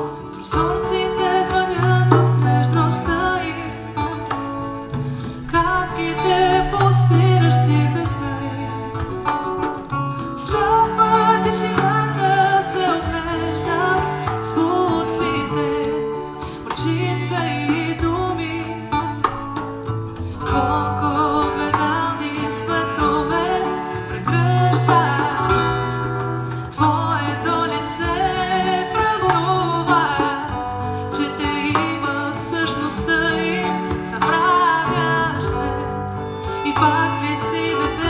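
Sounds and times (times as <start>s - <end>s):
acoustic guitars playing: 0.0s - 38.0s
woman singing: 0.0s - 38.0s.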